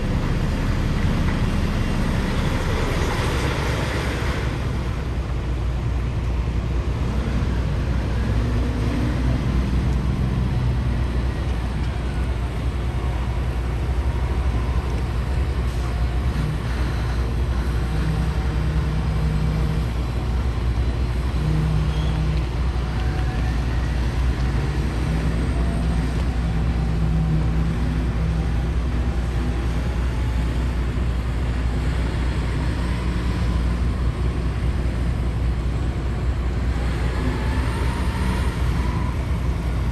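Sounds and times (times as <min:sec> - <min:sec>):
heavy diesel truck engines rumbling: 0:00.0 - 0:39.9.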